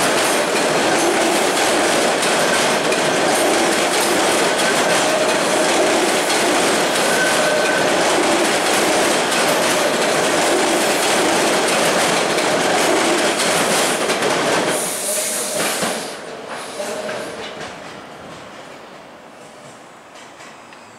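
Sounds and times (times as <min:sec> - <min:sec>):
subway train wheels on rails: 0:00.0 - 0:20.9.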